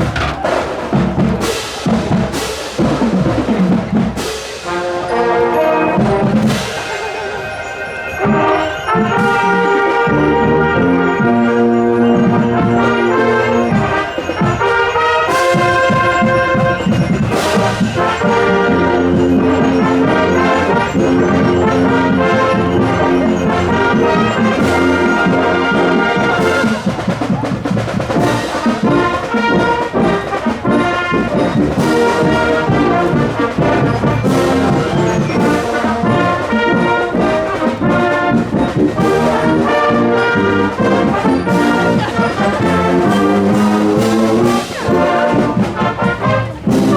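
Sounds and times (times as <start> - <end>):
marching wind band: 0.0 - 46.9
percussion crashes: 0.0 - 46.9.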